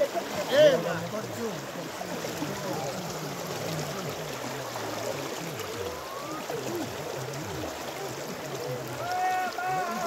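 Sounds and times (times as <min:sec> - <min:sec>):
river water splashing: 0:00.0 - 0:10.0
voices in background: 0:00.0 - 0:10.0.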